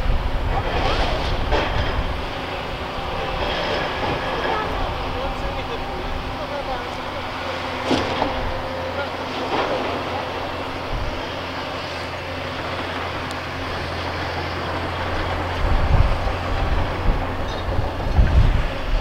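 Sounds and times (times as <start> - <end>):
demolition site noise: 0.0 - 19.0
excavator diesel engine running: 0.0 - 19.0
wind buffeting microphone: 0.0 - 19.0.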